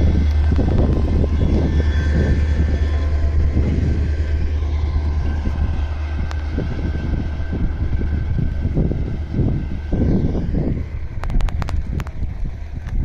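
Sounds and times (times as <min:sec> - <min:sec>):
freight train rumbling past: 0:00.0 - 0:13.0
wheels whining on rail: 0:00.0 - 0:13.0
wind buffeting microphone: 0:00.0 - 0:13.0.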